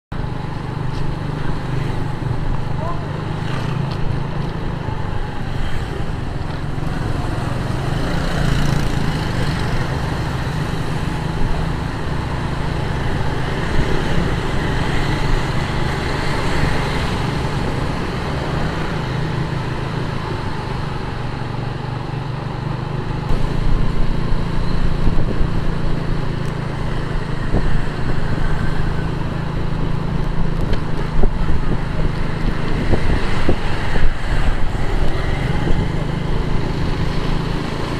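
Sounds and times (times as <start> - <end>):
road traffic: 0.1 - 37.9.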